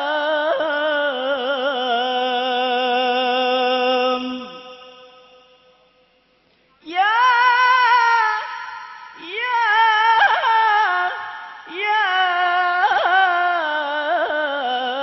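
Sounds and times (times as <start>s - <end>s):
man singing devotional song: 0.0s - 5.8s, 6.8s - 15.0s.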